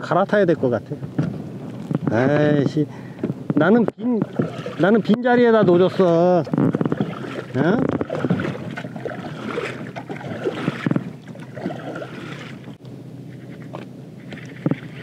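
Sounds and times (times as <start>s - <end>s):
water lapping against hull: 2.9s - 15.0s.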